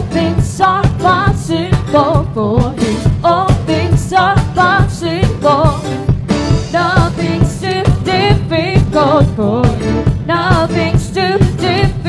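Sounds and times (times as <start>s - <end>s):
steady drum beat: 0.0s - 12.0s
woman singing with vibrato: 0.0s - 12.0s.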